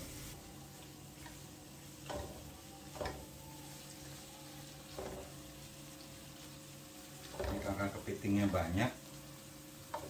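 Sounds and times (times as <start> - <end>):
paste frying in a wok: 0.0 - 10.0
spatula stirring: 0.8 - 10.0.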